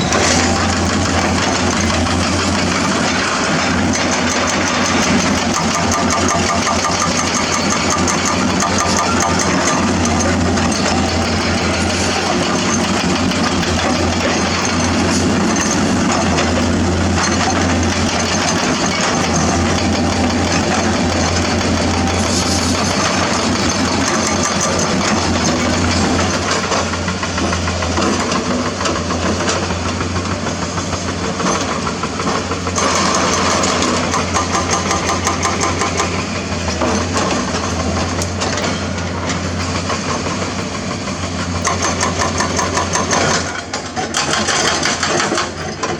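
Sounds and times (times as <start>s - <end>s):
dense clatter: 0.0s - 45.9s
excavator diesel engine running: 0.0s - 45.9s.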